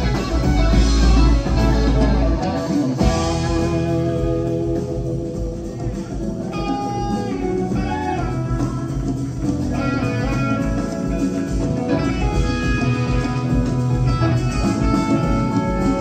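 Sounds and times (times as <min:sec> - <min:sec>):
electric guitar lead notes: 0:00.0 - 0:16.0
rock band playing: 0:00.0 - 0:16.0.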